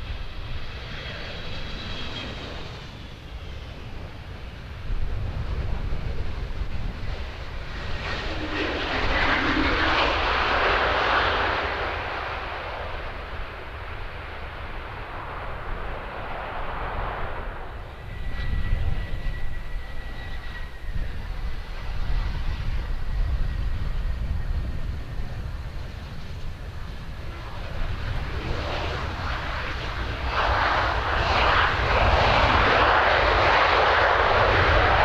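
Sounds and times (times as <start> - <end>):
jet engine high whine: 0.0 - 35.0
jet engines rushing: 0.0 - 35.0
wind rumble on microphone: 0.0 - 35.0.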